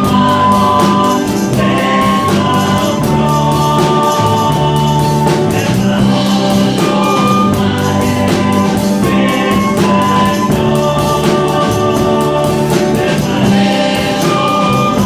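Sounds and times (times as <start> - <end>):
band playing folk-rock song: 0.0 - 15.0
voices singing: 0.0 - 15.0.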